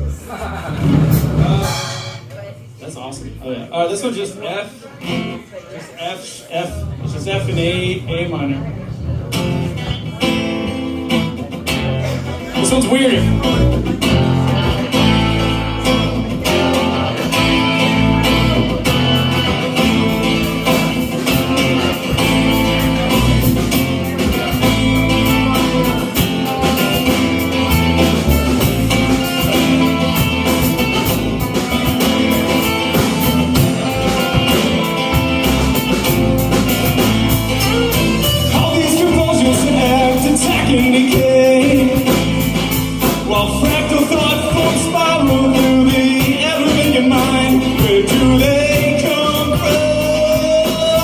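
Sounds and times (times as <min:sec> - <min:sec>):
bass and drums: 0:00.0 - 0:03.7, 0:06.7 - 0:51.0
electric guitar: 0:06.7 - 0:51.0.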